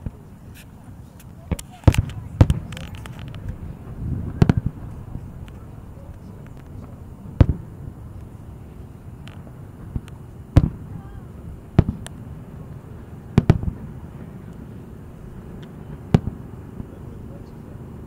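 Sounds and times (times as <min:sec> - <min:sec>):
distant fireworks booming: 0:01.2 - 0:18.0.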